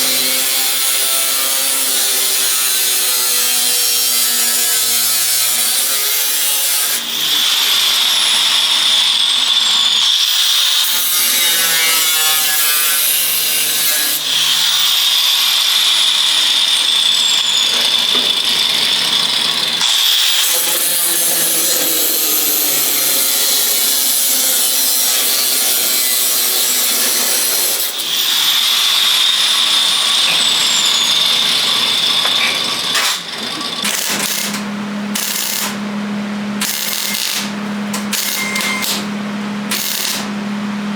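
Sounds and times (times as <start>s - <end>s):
power tool grinding sheet metal: 0.0s - 35.8s, 36.6s - 39.1s, 39.7s - 40.3s.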